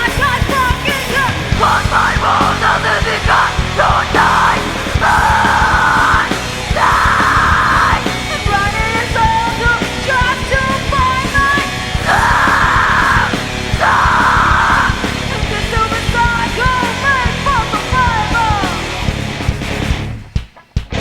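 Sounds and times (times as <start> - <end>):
melodic guitar lead: 0.0 - 20.0
punk rock music: 0.0 - 21.0
screamed vocals: 0.1 - 9.7, 10.3 - 18.9.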